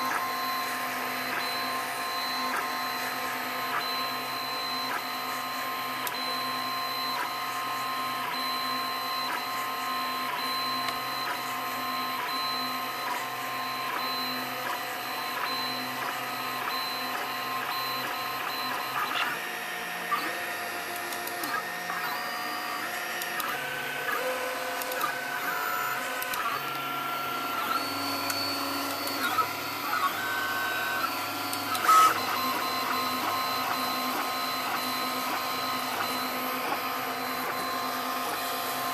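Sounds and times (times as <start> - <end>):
stepper motors whining: 7.0 - 38.9.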